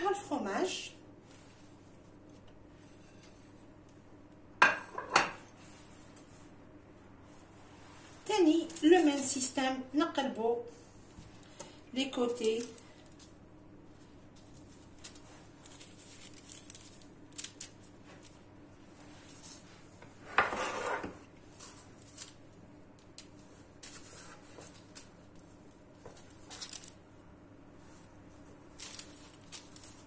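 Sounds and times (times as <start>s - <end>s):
baking paper rustling: 0.2s - 3.7s, 7.2s - 9.8s, 11.2s - 20.0s, 20.6s - 30.0s.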